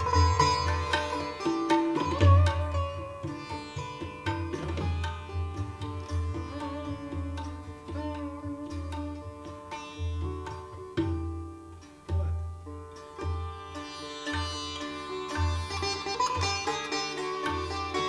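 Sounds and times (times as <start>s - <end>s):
sitar plucked notes: 0.0s - 18.0s
tabla strokes: 0.0s - 18.0s.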